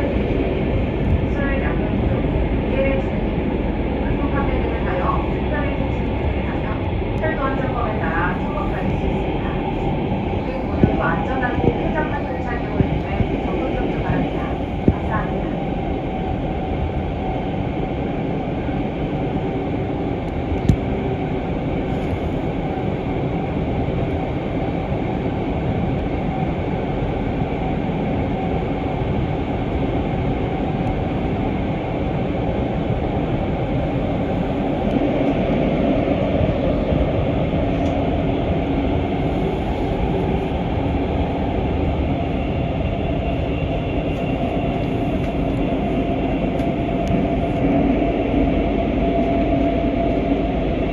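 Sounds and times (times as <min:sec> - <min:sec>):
train car running rumble: 0:00.0 - 0:50.9.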